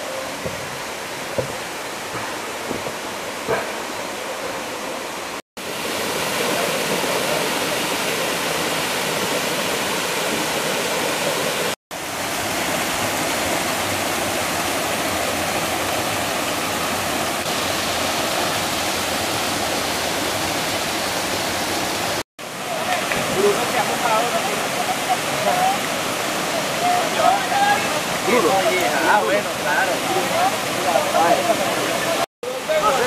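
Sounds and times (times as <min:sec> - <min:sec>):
stream rushing over boulders: 0:00.0 - 0:33.0.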